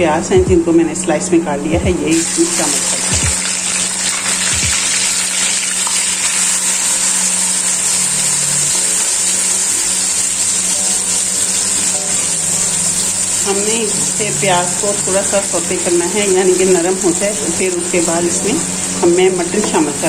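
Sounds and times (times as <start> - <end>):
onions sizzling in hot oil: 2.1 - 20.0.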